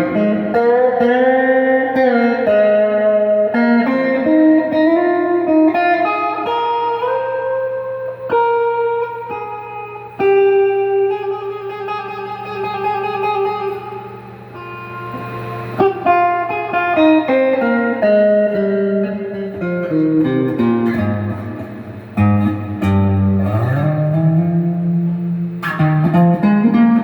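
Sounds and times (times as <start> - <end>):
electric guitar notes: 0.0 - 27.0.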